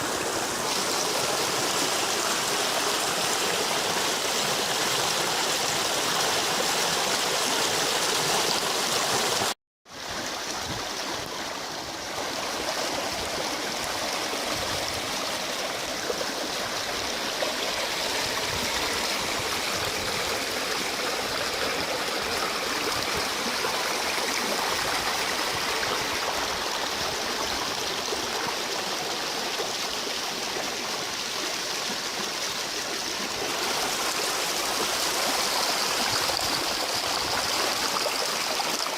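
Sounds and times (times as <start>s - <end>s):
river water rushing: 0.0s - 30.4s, 31.8s - 38.9s.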